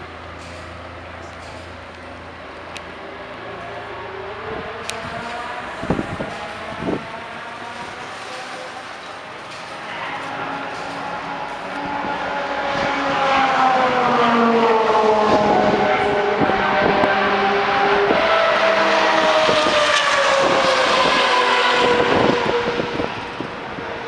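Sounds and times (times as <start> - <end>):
engine drone sliding down in pitch: 0.4 - 24.0.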